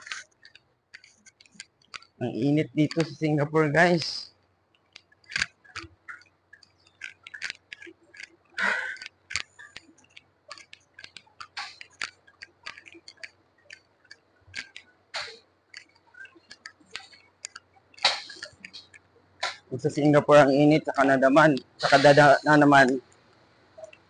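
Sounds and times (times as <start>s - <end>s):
light clicks and taps: 0.0s - 24.0s.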